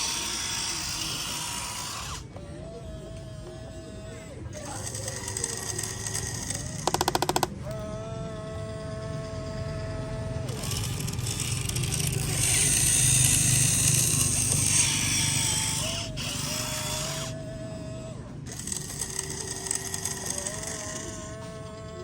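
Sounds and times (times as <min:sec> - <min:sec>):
hissing whir: 0:00.0 - 0:22.0
small electric motors whining: 0:00.0 - 0:22.0.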